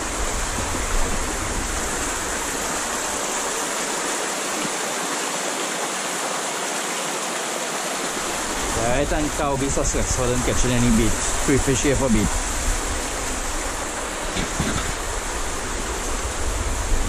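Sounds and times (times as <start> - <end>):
stream rushing over boulders: 0.0 - 17.0.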